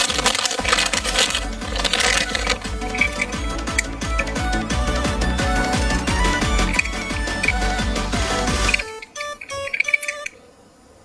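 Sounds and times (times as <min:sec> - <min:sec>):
music with fast beat: 0:00.0 - 0:08.9.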